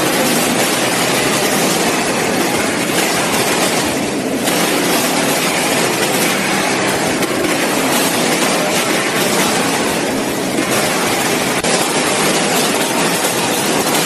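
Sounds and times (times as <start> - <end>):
conveyor belts rattling: 0.0 - 14.0.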